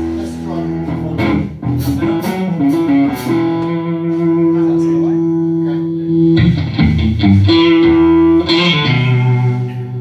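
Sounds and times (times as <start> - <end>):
electric guitar notes: 0.0 - 10.0
low bass notes: 0.0 - 10.0.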